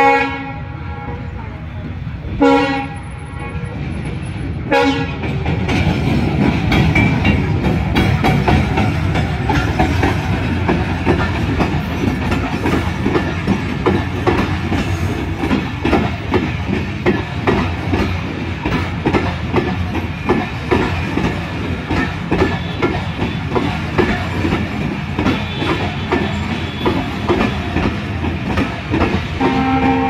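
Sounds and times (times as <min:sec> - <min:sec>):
low train rumble: 0:00.0 - 0:30.0
train wheels clattering over rail joints: 0:05.0 - 0:30.0.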